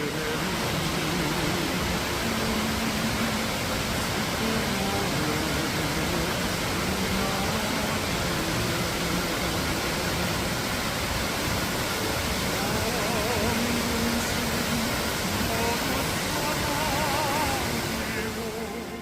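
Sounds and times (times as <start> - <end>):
faint person singing with vibrato: 0.0 - 19.0
stream water rushing: 0.0 - 19.0.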